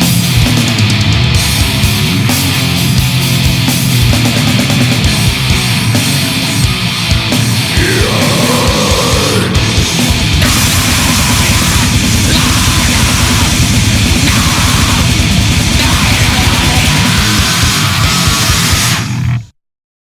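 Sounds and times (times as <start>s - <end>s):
pounding low drums: 0.0s - 19.2s
heavy grindcore music: 0.0s - 19.5s.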